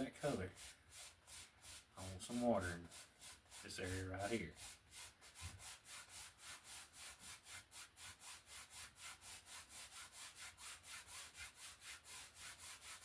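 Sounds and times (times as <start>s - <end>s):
paintbrush scrubbing on canvas: 0.0s - 13.0s.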